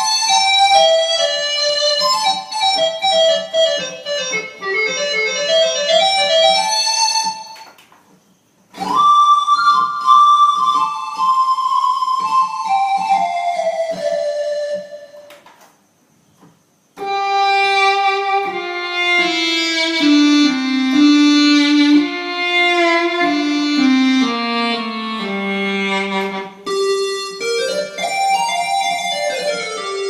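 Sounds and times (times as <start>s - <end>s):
electronic keyboard melody: 0.0s - 7.9s, 8.7s - 15.6s, 17.0s - 30.0s.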